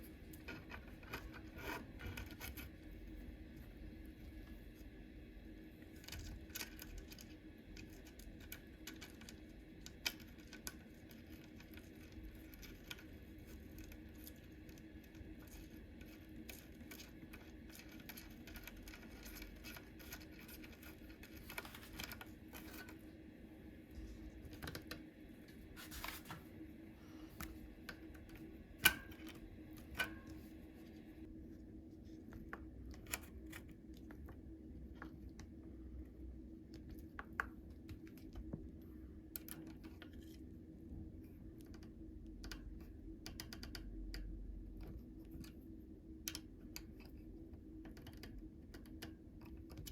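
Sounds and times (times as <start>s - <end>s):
small clicks taps and scrapes: 0.0s - 4.9s, 5.8s - 23.1s, 23.9s - 26.4s, 27.4s - 49.9s
steady low hum: 0.0s - 49.9s.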